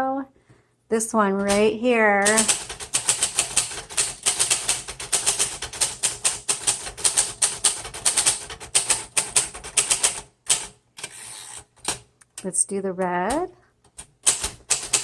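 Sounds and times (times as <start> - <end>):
manual typewriter typing: 1.4 - 12.1, 13.3 - 15.0.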